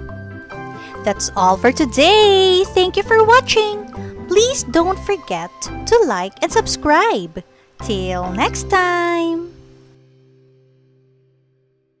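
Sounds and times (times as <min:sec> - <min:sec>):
background music held chord: 0:00.0 - 0:12.0.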